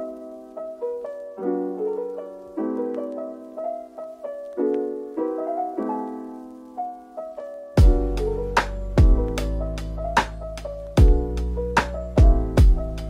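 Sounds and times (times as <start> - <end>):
piano playing chords: 0.0 - 13.0.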